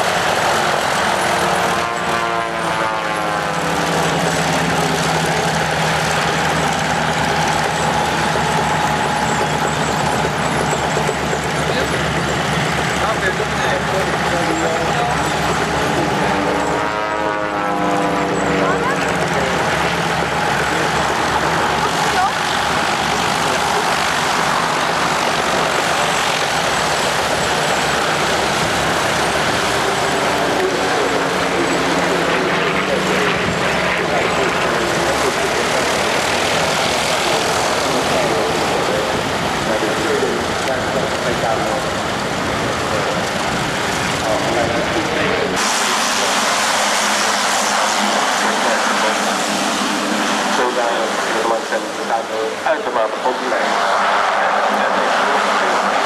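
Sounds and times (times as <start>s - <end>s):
radial aircraft engines droning: 0.0s - 56.0s.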